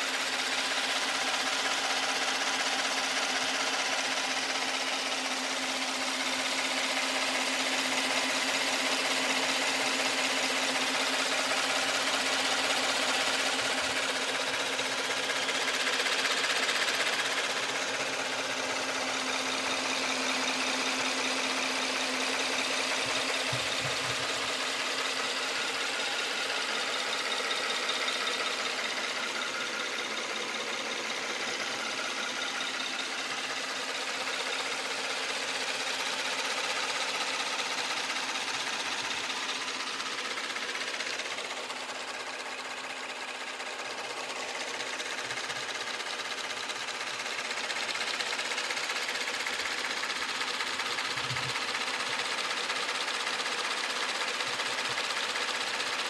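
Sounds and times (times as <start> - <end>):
car engine idling: 0.0 - 56.0
fuel injector ticking: 0.0 - 56.0.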